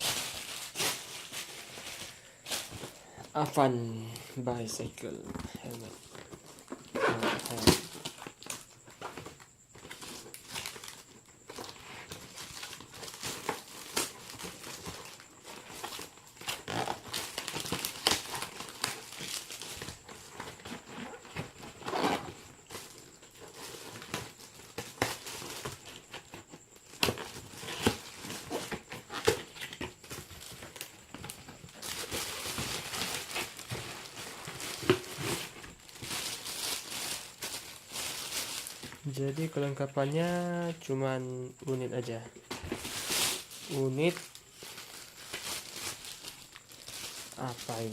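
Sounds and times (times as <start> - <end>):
packaging crinkling and rustling: 0.0 - 47.9.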